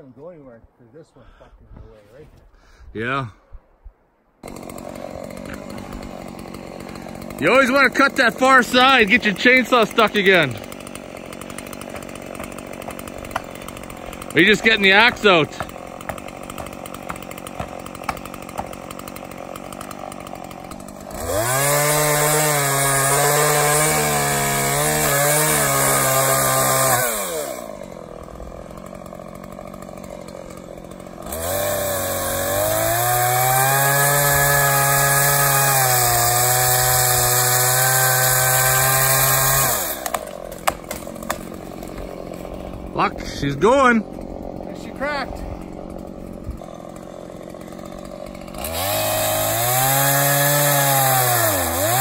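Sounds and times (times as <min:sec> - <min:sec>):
chainsaw cutting tree trunk: 0:04.4 - 0:52.0.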